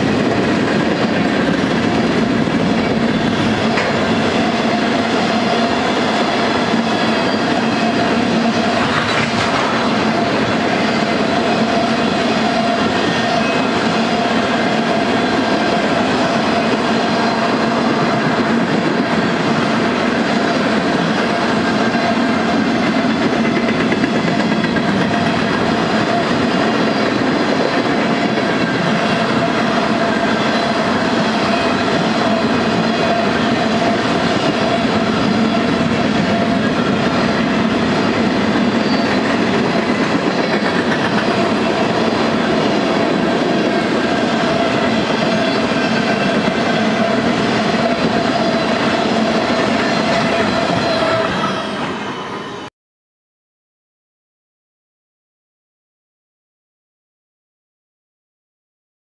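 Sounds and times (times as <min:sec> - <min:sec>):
train wheels rumbling on rails: 0:00.0 - 0:52.7.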